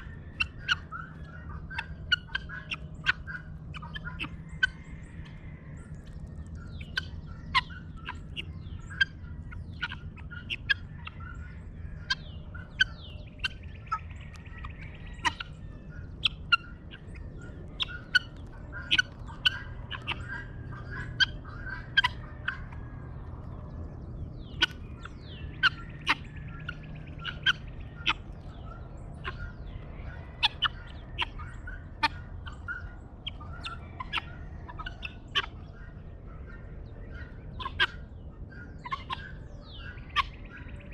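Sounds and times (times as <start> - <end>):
birds chirping: 0.0 - 40.9
chatter of bird calls: 0.0 - 40.9
low steady hum: 0.0 - 40.9.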